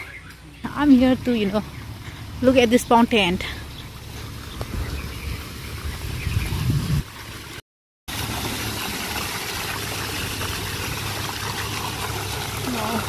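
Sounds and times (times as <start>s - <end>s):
fountain water splashing: 2.0s - 13.0s.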